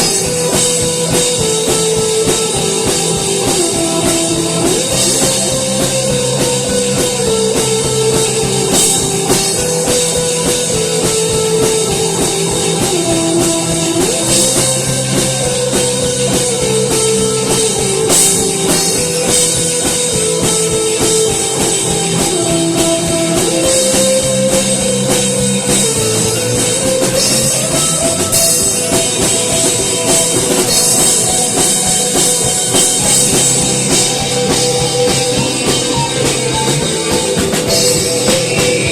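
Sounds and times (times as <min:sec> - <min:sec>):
drum kit beat: 0:00.0 - 0:38.9
guitar: 0:00.0 - 0:38.9
sustained melody line: 0:00.0 - 0:38.9.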